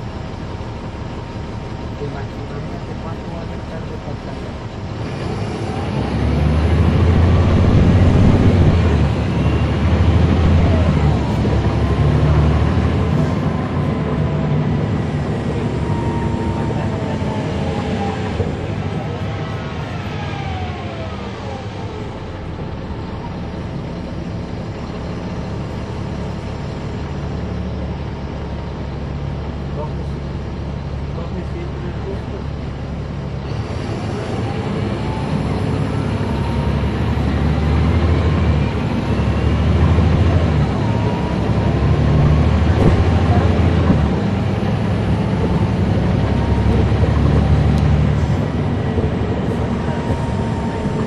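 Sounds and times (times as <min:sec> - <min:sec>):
bus diesel engine under load: 0:00.0 - 0:51.0
drivetrain whine: 0:00.0 - 0:51.0.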